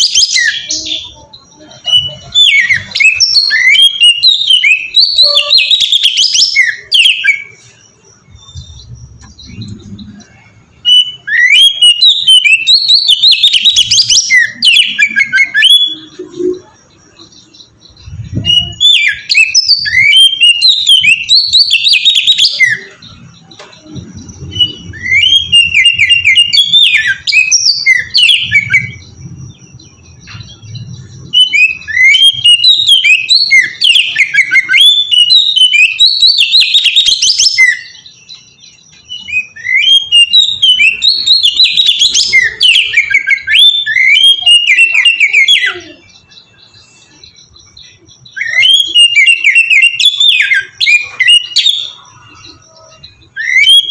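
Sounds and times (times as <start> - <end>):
bird singing whistled phrases: 0.0 - 53.9.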